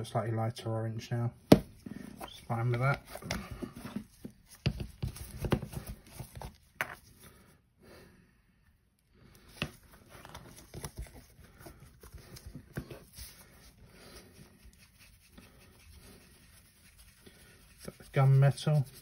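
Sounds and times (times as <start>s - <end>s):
soft paper rustling: 1.8s - 7.5s, 9.2s - 19.0s.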